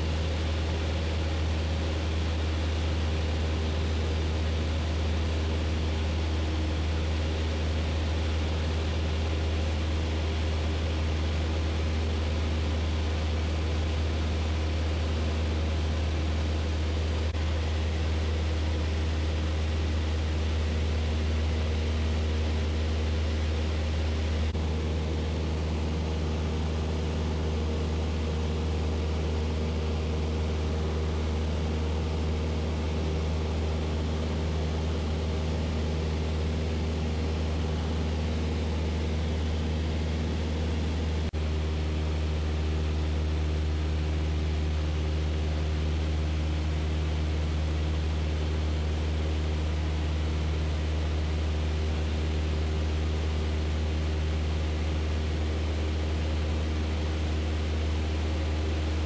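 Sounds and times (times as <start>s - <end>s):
light aircraft engine droning: 0.0s - 59.0s
low hum: 0.0s - 59.0s.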